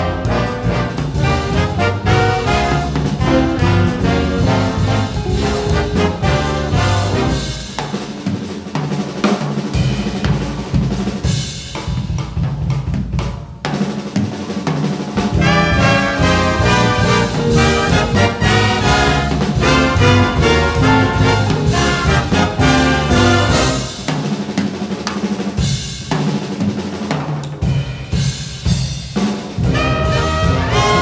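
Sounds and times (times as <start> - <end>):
big band jazz horns: 0.0 - 31.0
drum kit break with snare and cymbals: 0.0 - 31.0.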